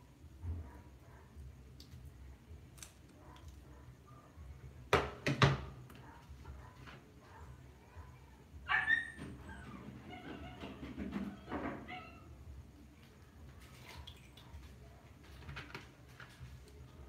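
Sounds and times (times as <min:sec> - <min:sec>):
faint low hum: 0:00.0 - 0:05.0, 0:05.6 - 0:17.0.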